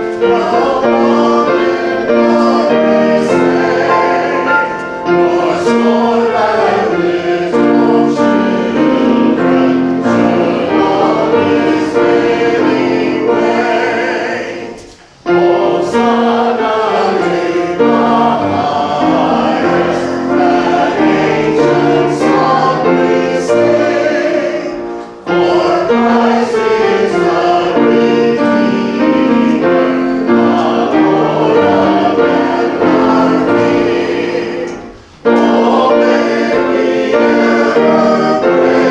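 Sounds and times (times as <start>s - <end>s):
congregation singing a hymn: 0.0s - 38.9s
instrumental accompaniment: 0.0s - 38.9s.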